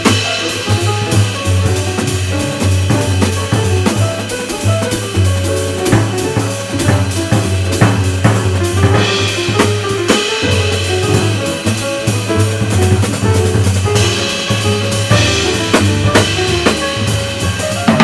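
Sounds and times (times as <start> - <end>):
busy drumming with cymbals: 0.0 - 18.0
double bass line: 0.0 - 18.0
piano: 0.0 - 18.0.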